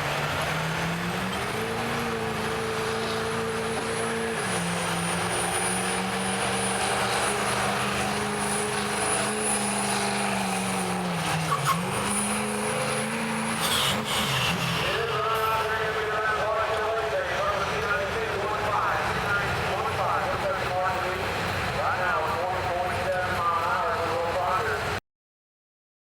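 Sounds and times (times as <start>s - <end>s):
diesel truck engine at high revs: 0.0s - 25.0s.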